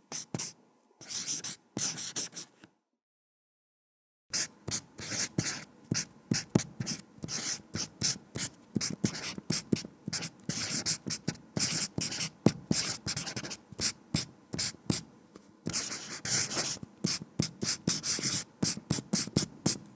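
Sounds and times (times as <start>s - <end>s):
marker writing strokes: 0.1s - 2.5s, 4.3s - 19.8s.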